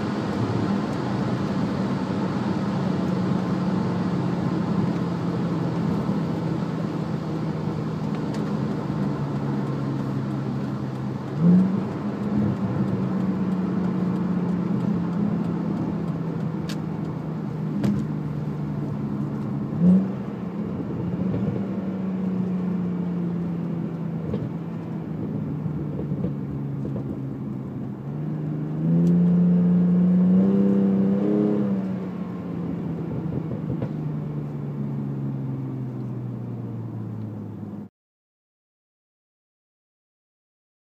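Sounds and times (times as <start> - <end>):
car engine cruising: 0.0 - 37.9.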